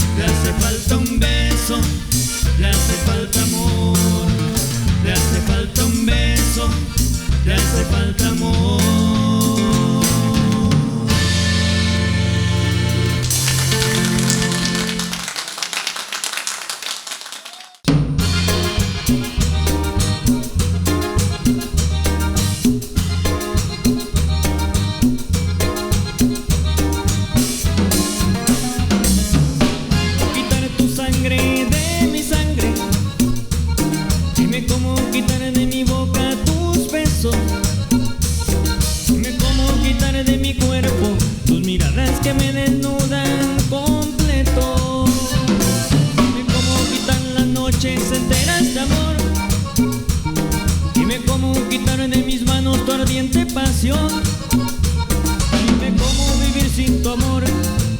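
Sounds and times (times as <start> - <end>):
drum kit and bass beat: 0.0 - 15.4, 17.9 - 57.9
band playing cumbia music: 0.0 - 57.9.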